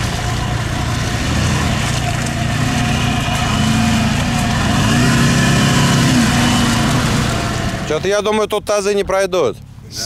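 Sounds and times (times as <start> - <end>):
car engine running under load: 0.0 - 10.0.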